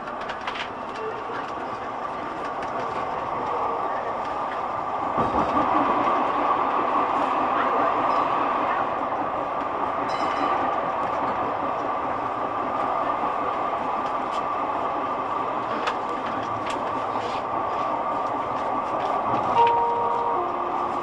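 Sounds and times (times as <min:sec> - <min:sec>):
train running hum: 0:00.0 - 0:21.0
wheels clicking on rails: 0:00.0 - 0:21.0.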